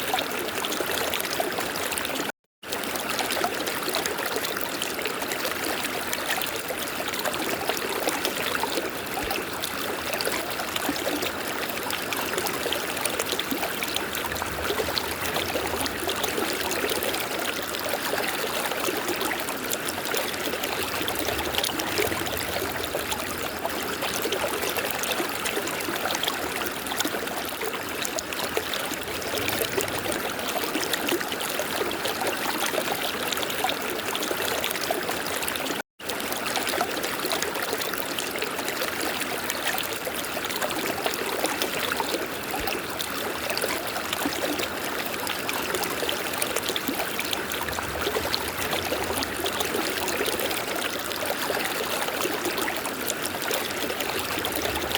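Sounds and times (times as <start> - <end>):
river water flowing: 0.2 - 54.9.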